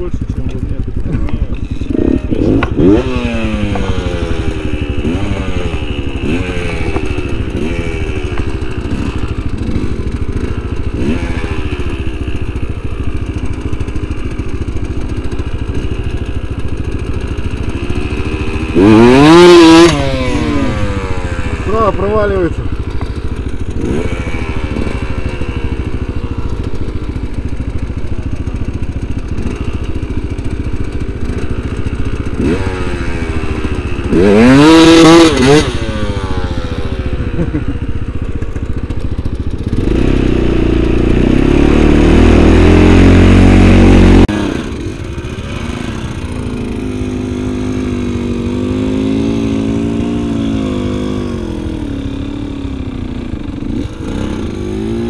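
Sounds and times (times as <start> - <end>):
snowmobile engine revving: 0.0 - 12.2, 17.3 - 27.6, 28.6 - 37.8, 39.6 - 55.0.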